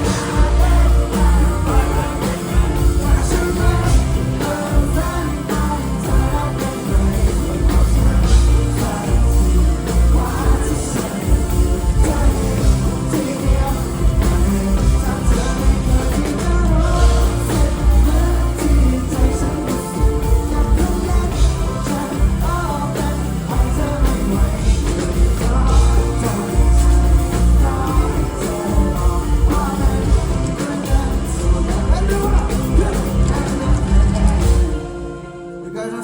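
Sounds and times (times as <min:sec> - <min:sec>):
pop-rock band with drums and bass: 0:00.0 - 0:35.6
person singing: 0:00.0 - 0:36.0.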